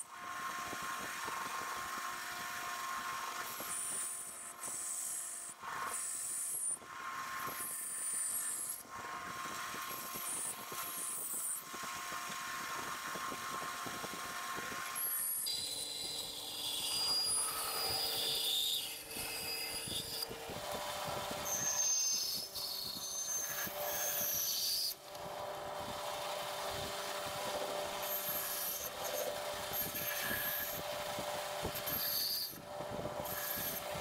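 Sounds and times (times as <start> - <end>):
bandsaw cutting wood: 5.8 - 34.0.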